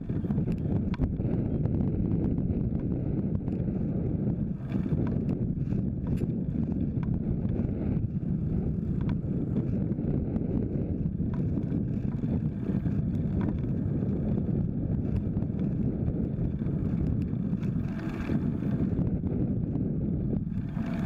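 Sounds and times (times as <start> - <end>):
tyre and road noise: 0.0 - 21.0
wind rumble on microphone: 0.0 - 21.0.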